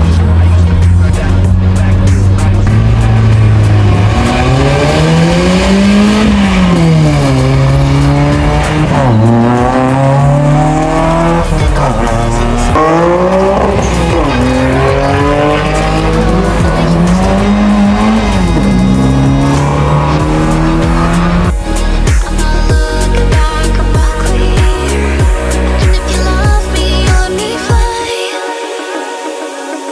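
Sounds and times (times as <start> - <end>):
car engine revving: 0.0 - 27.7.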